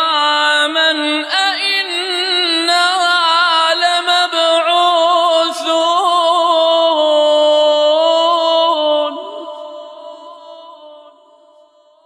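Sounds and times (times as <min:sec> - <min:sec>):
man chanting melodic recitation: 0:00.0 - 0:11.4.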